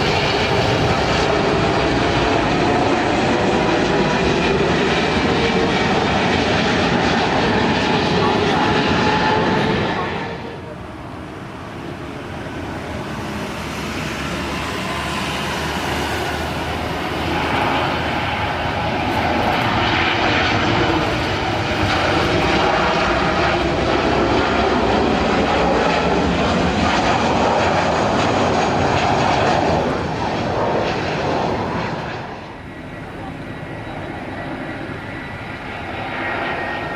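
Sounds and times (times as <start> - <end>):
airliner engines flying low: 0.0 - 36.9
sweeping jet whine: 0.0 - 36.9.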